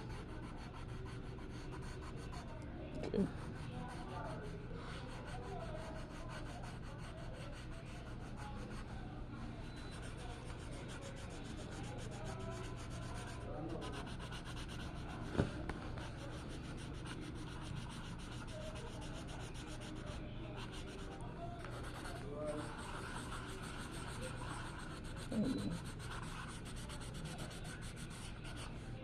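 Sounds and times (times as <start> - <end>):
art tool scratching on paper: 0.1 - 8.9, 9.6 - 28.9.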